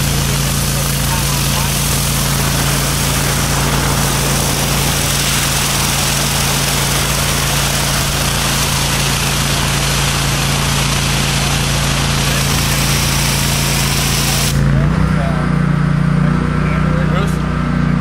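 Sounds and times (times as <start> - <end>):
water spray hissing on pavement: 0.0 - 14.6
pressure washer hum: 0.0 - 18.0.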